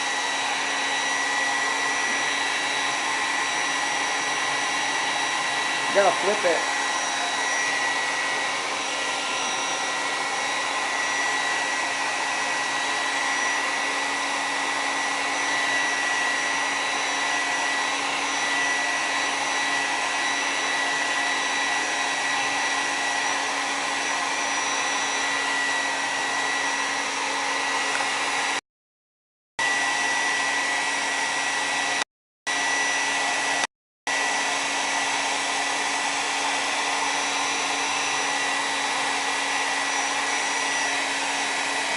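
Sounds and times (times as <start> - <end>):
hair dryer blowing air: 0.0 - 28.6, 29.6 - 41.9.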